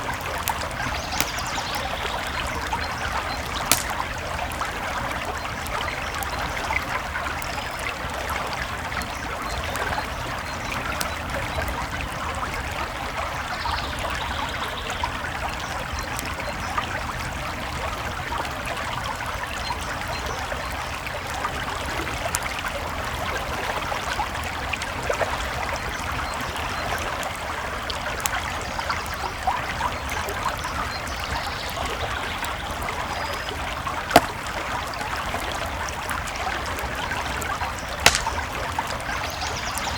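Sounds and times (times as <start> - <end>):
creek flowing: 0.0 - 26.6, 27.2 - 39.9.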